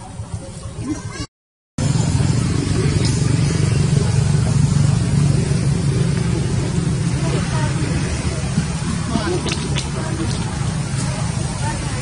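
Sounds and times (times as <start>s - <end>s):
small engine rumbling: 0.0s - 12.0s.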